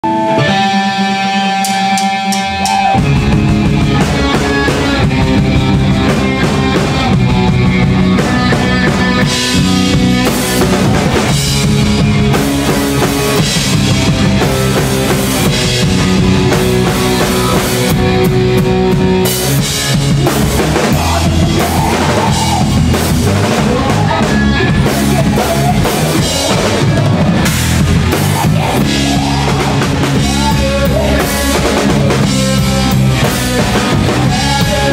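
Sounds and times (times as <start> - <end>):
bass guitar: 0.0 - 34.9
drum kit: 0.0 - 34.9
electric guitar: 0.0 - 34.9.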